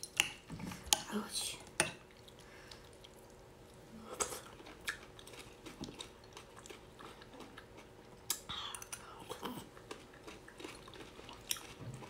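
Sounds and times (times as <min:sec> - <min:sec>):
soft chewing and mouth noises: 0:00.0 - 0:12.0.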